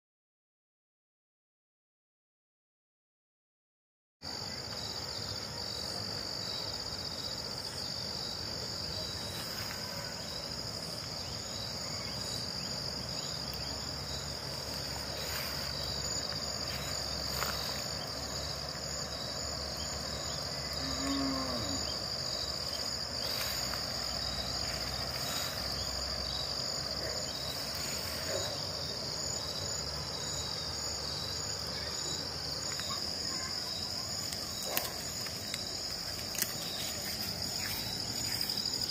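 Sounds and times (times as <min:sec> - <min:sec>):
insects trilling: 0:04.2 - 0:38.9.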